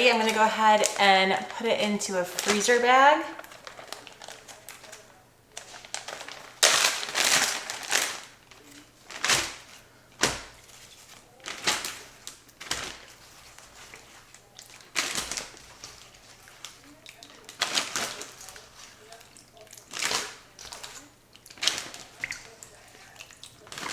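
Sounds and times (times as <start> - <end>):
plastic bag crinkling: 0.0 - 23.9.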